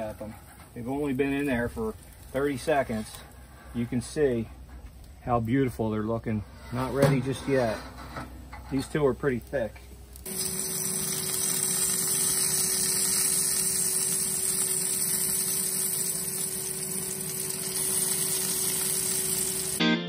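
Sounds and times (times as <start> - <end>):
gas burner hissing: 0.0 - 19.8.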